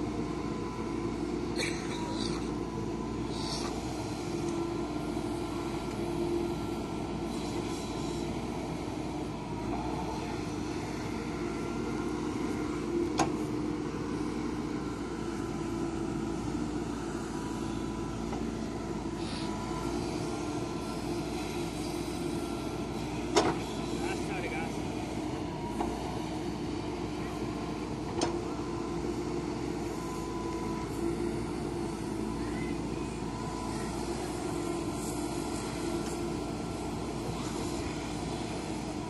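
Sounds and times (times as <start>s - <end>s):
diesel engine running under load: 0.0s - 39.0s
backhoe digging and dumping soil: 2.0s - 39.0s.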